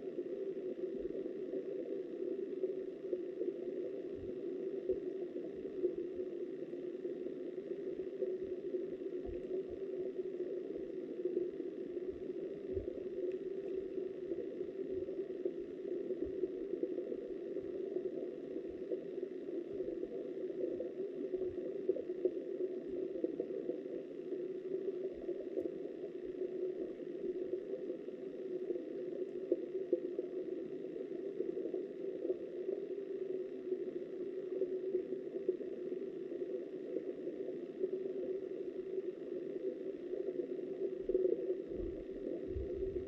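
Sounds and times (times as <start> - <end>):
muffled underwater river rush: 0.1 - 43.0.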